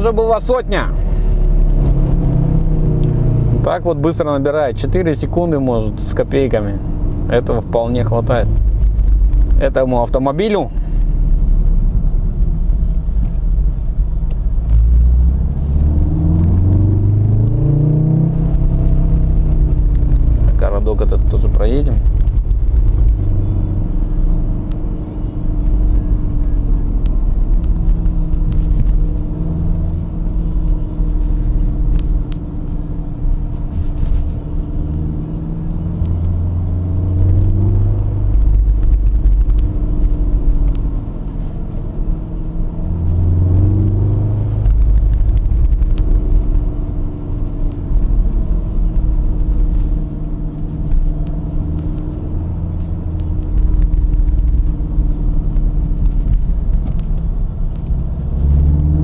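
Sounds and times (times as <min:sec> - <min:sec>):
car engine heard from inside: 0:00.0 - 0:59.0.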